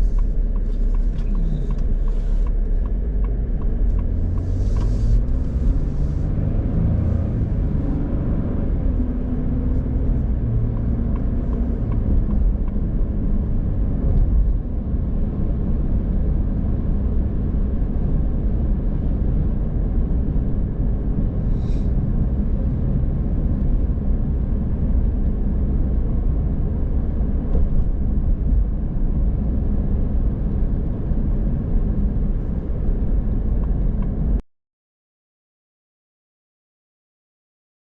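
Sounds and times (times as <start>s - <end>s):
car engine and tyre noise: 0.0s - 34.4s.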